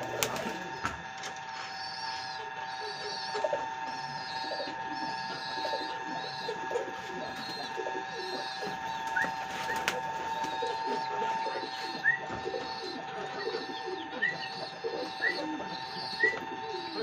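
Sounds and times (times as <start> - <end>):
pigeons cooing: 0.0 - 17.0
steady high hum: 0.0 - 17.0
high wavering calls: 1.6 - 17.0.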